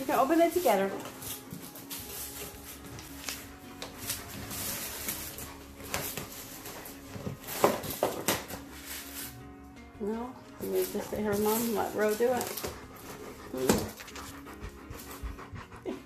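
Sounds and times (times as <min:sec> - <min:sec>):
dog scraping cardboard box: 0:00.0 - 0:09.4, 0:10.6 - 0:15.1.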